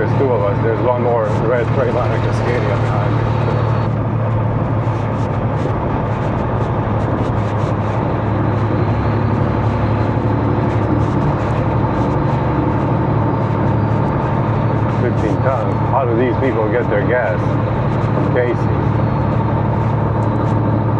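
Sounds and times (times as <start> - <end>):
road noise: 0.0 - 20.9
truck engine drone from cab: 0.0 - 20.9.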